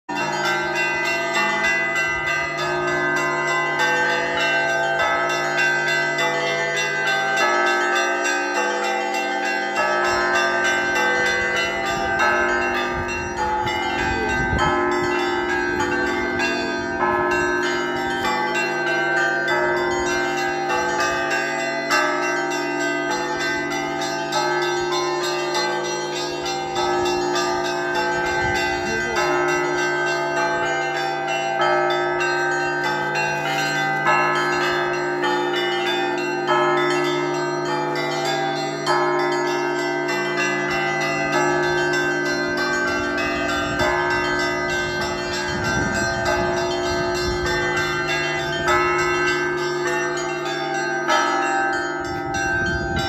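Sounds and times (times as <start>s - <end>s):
church bells pealing: 0.1s - 53.0s.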